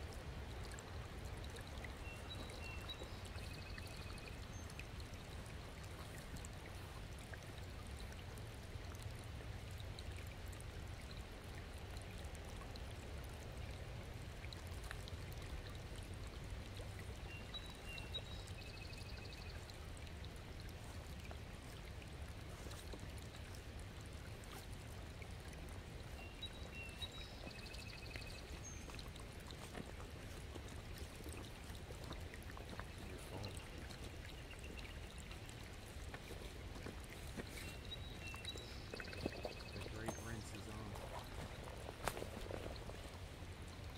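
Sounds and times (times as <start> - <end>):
stream running over stones: 0.0 - 43.9.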